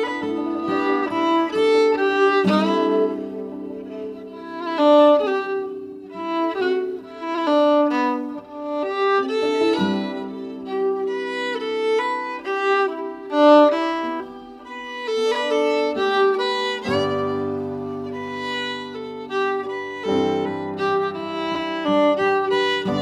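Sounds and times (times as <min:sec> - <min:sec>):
instrumental background music: 0:00.0 - 0:23.0.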